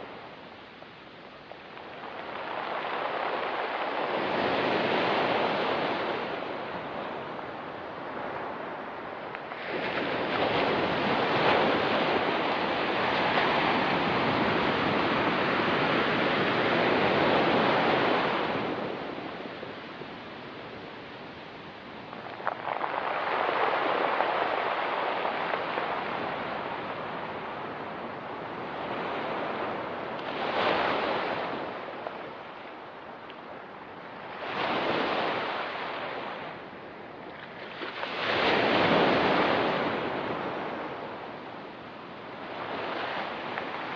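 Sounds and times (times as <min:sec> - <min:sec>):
surf washing on pebbly shore: 0:00.0 - 0:43.9.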